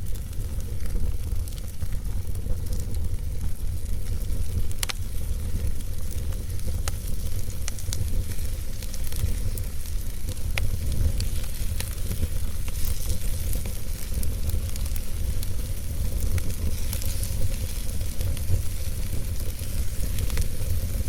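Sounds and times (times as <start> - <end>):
burning logs crackling: 0.0 - 21.0
fire rumbling and hissing: 0.0 - 21.0.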